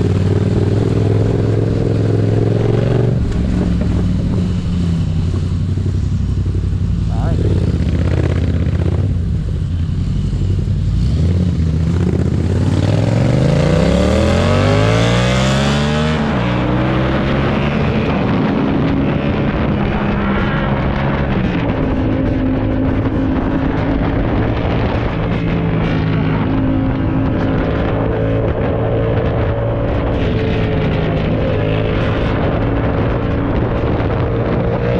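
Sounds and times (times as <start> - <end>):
motorcycle engine accelerating: 0.0 - 34.9
wind rush: 0.0 - 34.9.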